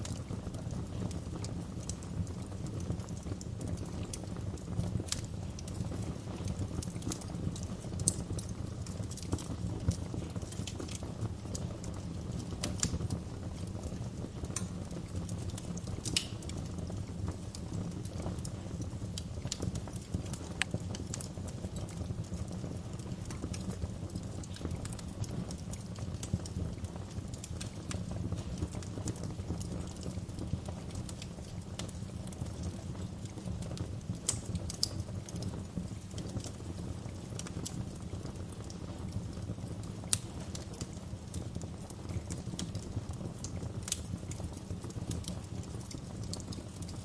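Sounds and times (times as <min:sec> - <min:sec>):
fire crackling and popping: 0:00.0 - 0:47.0
fire flames rumbling: 0:00.0 - 0:47.0.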